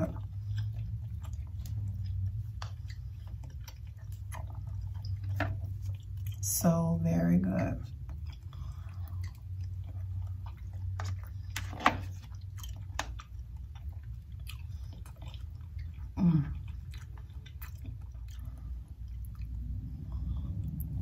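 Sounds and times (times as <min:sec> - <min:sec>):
wet chewing: 0:00.0 - 0:21.0.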